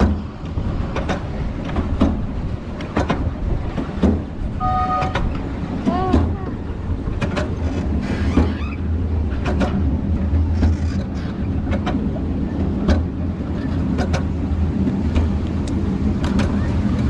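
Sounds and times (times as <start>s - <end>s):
miniature train rumbling: 0.0s - 17.0s
wheel clicks over rail joints: 0.0s - 17.0s.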